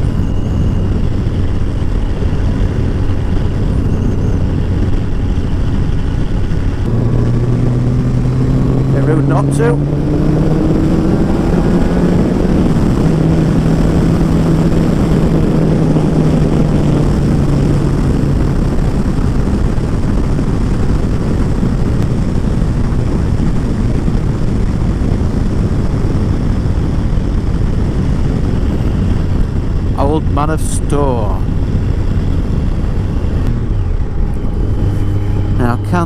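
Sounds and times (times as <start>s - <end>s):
motorcycle engine pulling at speed: 0.0s - 36.0s
wind rushing on microphone: 0.0s - 36.0s.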